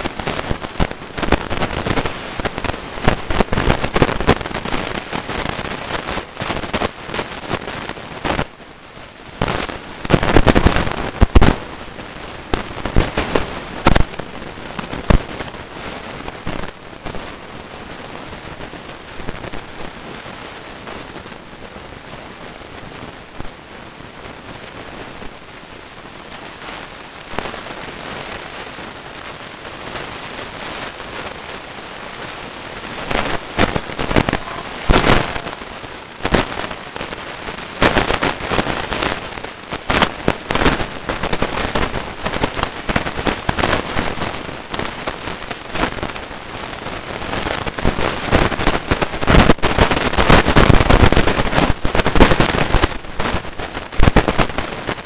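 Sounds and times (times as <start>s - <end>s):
sharp cracks and pops: 0.0s - 8.6s, 9.3s - 17.4s, 24.2s - 55.0s
rain hissing: 0.0s - 55.0s.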